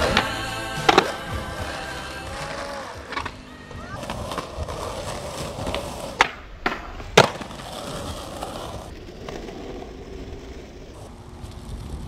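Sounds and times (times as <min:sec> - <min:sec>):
skateboard wheels rolling on pavement: 0:00.0 - 0:12.0
skateboard clacking on ground: 0:02.3 - 0:12.0.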